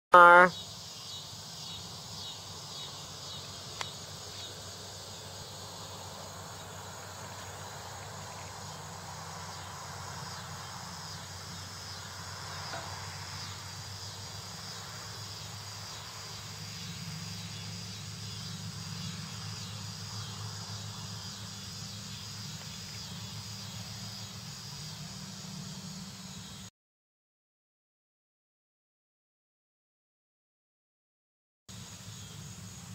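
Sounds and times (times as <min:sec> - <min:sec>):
insects chirping: 0:00.2 - 0:26.7, 0:31.7 - 0:32.9.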